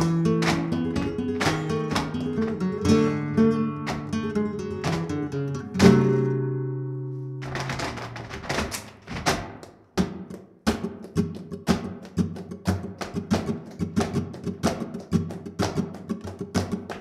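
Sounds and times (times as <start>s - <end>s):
flamenco hand claps: 0.0s - 6.5s, 7.4s - 17.0s
flamenco guitar strumming: 0.0s - 17.0s.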